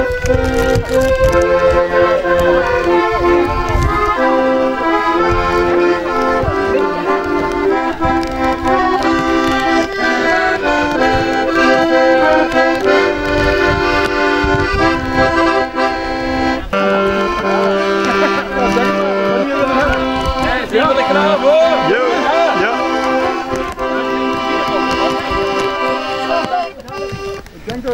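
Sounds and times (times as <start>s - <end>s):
two accordions playing a tune: 0.0s - 27.9s.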